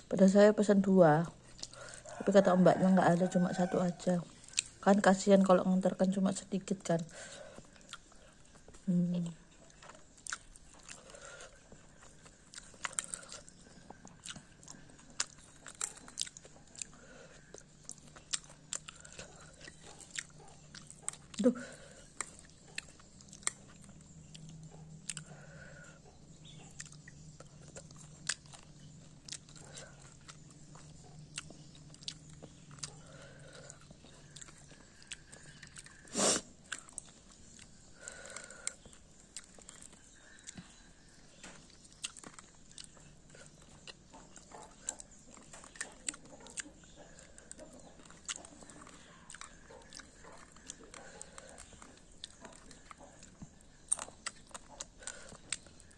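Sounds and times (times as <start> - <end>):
person chewing and crunching: 0.0 - 55.9.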